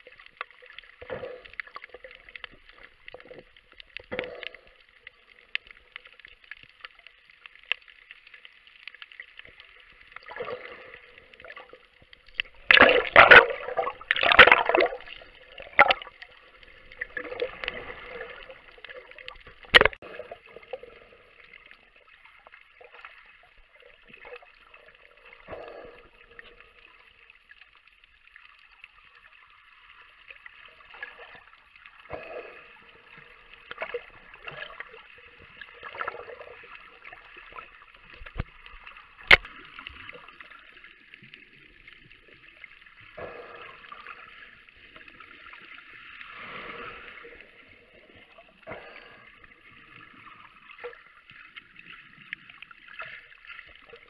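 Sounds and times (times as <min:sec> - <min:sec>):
water gurgling: 0:00.0 - 0:54.0.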